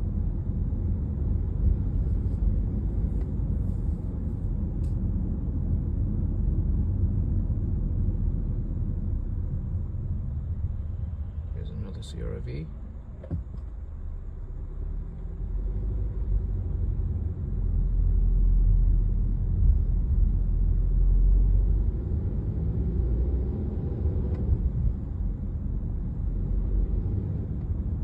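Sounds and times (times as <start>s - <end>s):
car engine rumble inside cabin: 0.0s - 28.0s.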